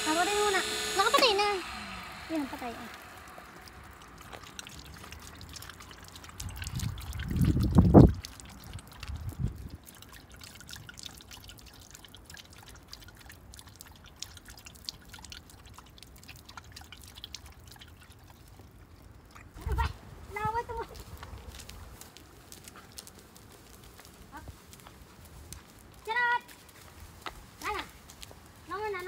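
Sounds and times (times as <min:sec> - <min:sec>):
water trickling from bottle: 0:01.7 - 0:28.9.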